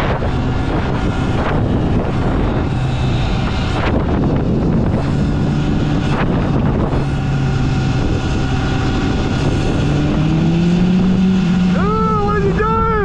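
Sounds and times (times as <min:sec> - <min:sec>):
electric vehicle hum: 0:00.0 - 0:13.0
wind buffeting microphone: 0:00.0 - 0:13.0.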